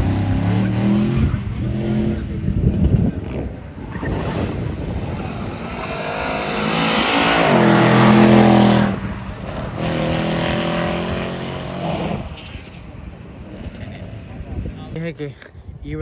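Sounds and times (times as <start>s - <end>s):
car engine revving past: 0.0s - 14.4s.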